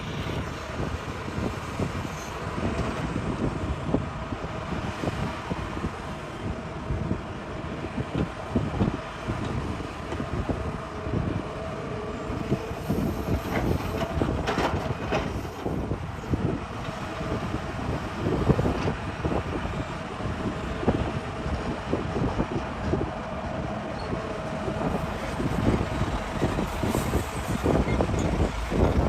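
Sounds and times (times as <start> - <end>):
excavator engine rumble: 0.0 - 29.0.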